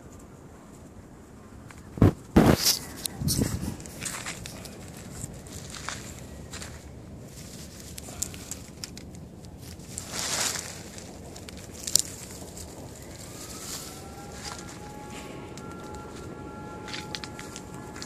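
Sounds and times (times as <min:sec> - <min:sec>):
leaves rustling against microphone: 0:00.0 - 0:18.0
footsteps through dry scrub: 0:02.4 - 0:18.0
twigs crackling: 0:02.5 - 0:18.0
faint steady tone: 0:03.0 - 0:18.0.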